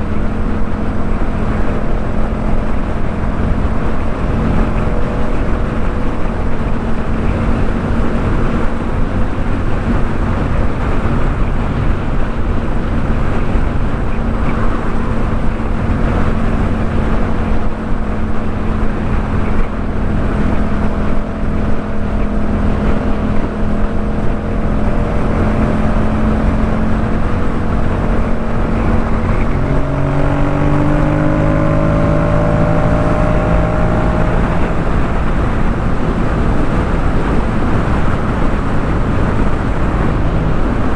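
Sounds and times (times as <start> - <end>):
motorcycle engine: 0.0 - 40.9
wind rushing over microphone: 0.0 - 40.9.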